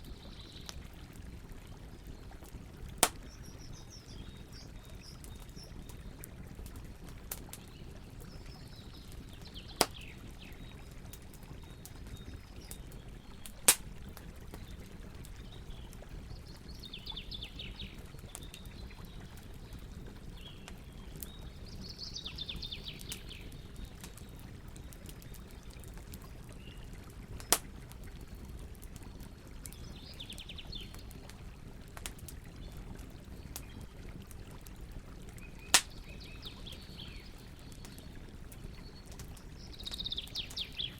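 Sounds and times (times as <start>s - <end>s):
fire popping: 0.0s - 21.8s, 22.8s - 40.9s
campfire crackling: 0.0s - 40.9s.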